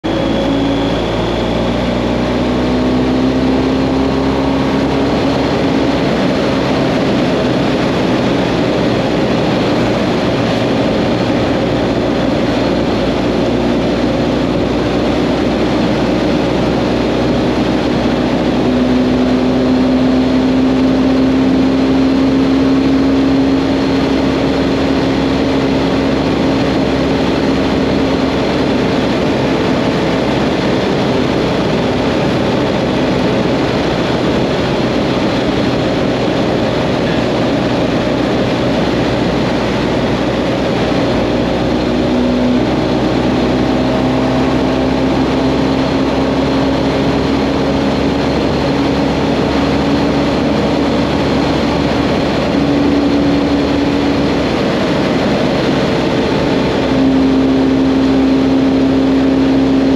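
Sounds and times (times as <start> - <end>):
motorcycle engine drone: 0.0 - 59.9
wind and road noise: 0.0 - 59.9.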